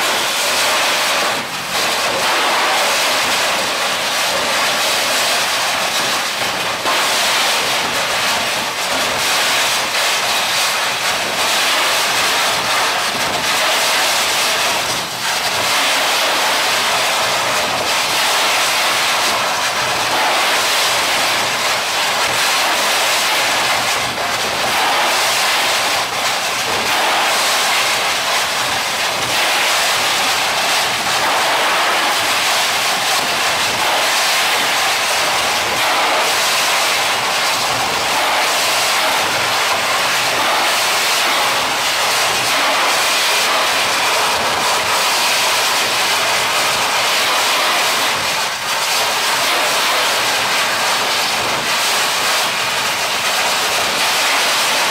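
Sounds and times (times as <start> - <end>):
high-pressure water jet hissing: 0.0 - 54.9.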